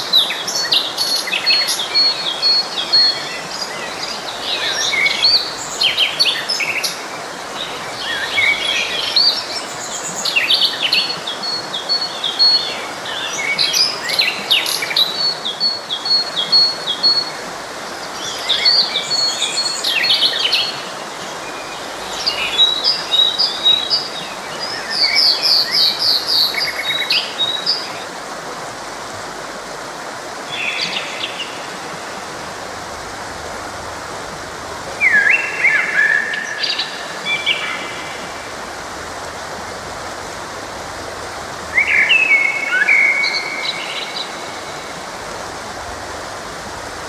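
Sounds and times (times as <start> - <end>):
forest stream flowing: 0.0 - 47.0.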